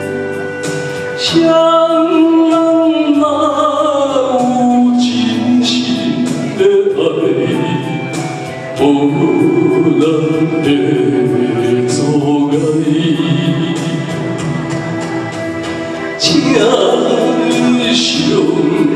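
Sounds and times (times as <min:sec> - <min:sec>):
karaoke backing track: 0:00.0 - 0:18.9
man singing into a microphone: 0:00.9 - 0:14.8, 0:16.1 - 0:18.9.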